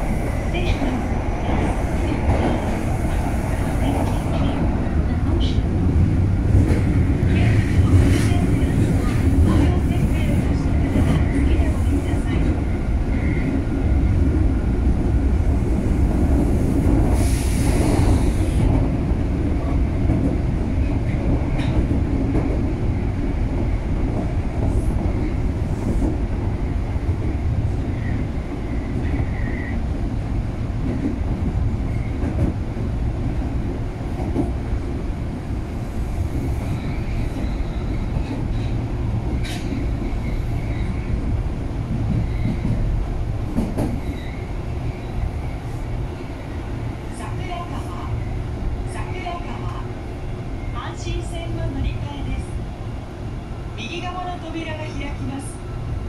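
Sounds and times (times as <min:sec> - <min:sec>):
subway train rumbling in tunnel: 0:00.0 - 0:56.0.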